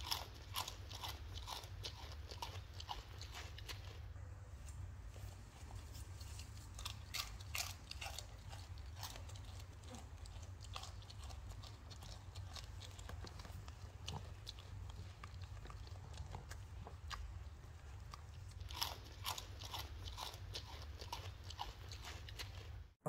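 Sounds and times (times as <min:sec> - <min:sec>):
goat chewing chips: 0:00.0 - 0:04.0, 0:05.4 - 0:22.7.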